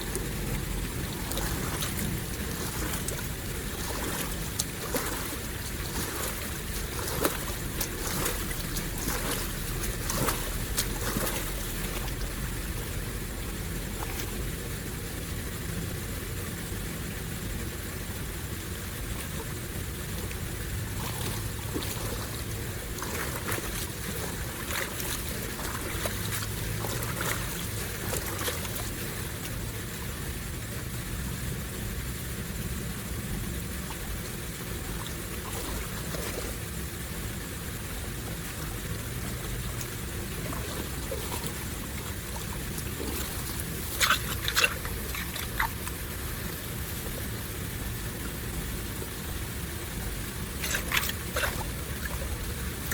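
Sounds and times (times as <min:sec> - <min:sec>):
water running and trickling: 0:00.0 - 0:15.8, 0:18.7 - 0:31.9, 0:32.7 - 0:52.9
steady low rumble: 0:00.0 - 0:52.9.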